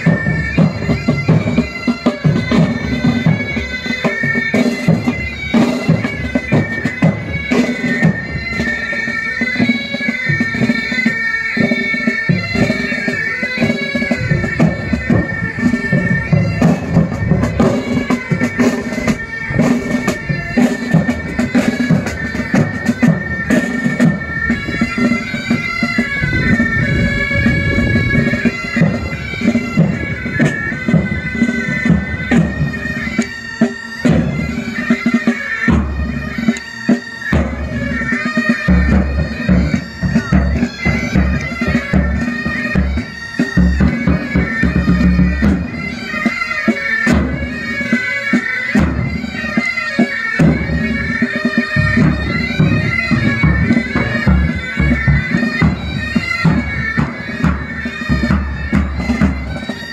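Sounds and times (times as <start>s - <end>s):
bagpipes playing a tune: 0.0s - 59.9s
drums beating time: 0.0s - 59.9s.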